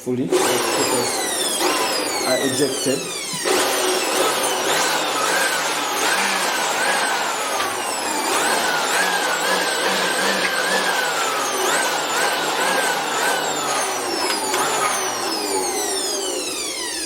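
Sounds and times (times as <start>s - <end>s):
blower rushing air with motor whine: 0.3s - 17.0s.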